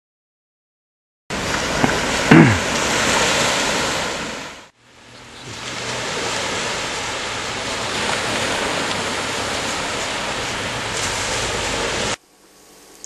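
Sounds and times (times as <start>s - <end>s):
sea surf: 1.3s - 12.2s
wind: 1.3s - 13.0s.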